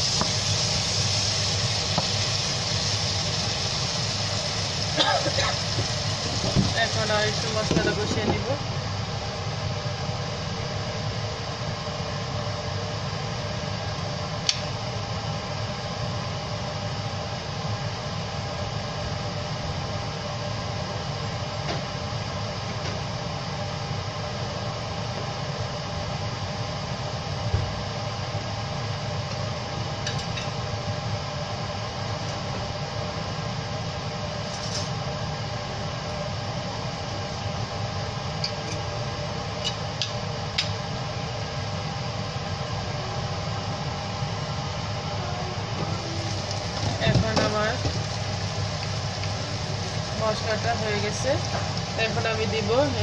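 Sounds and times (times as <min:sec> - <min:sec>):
kitchen appliance whir and hum: 0:00.0 - 0:53.0.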